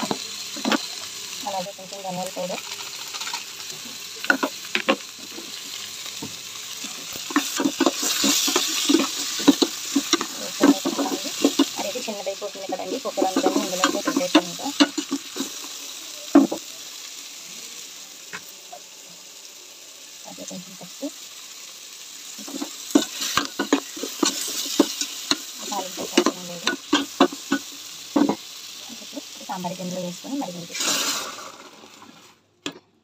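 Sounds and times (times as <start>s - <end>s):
vegetables sizzling in oil: 0.0s - 32.5s.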